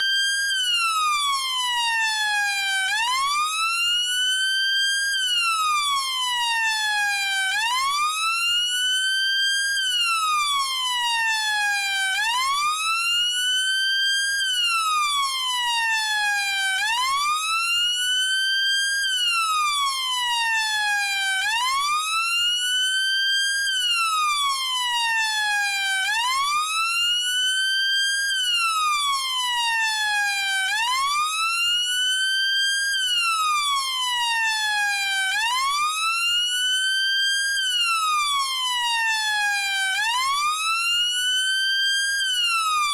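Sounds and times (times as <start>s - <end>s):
police siren wailing: 0.0s - 3.9s, 4.8s - 8.6s, 9.4s - 13.5s, 14.1s - 42.9s.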